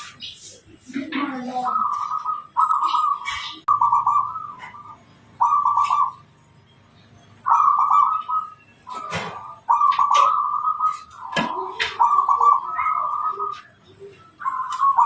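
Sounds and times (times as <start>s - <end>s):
dove cooing: 0.0s - 6.3s, 7.4s - 15.0s.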